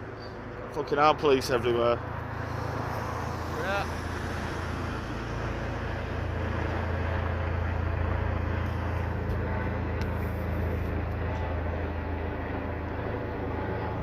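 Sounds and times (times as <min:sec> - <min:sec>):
helicopter rotor drone: 0:00.0 - 0:14.0.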